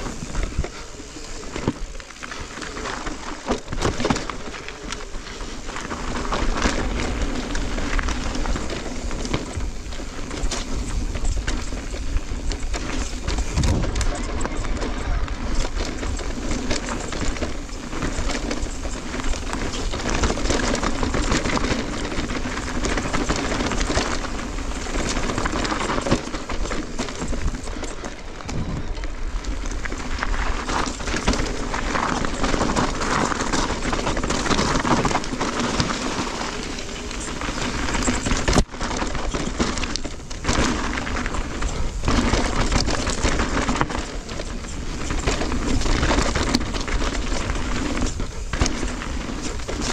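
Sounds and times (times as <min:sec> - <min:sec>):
bike rattling and knocking: 0:00.0 - 0:49.9
tyres on dirt and stones: 0:00.0 - 0:49.9
wind noise on microphone: 0:00.0 - 0:49.9.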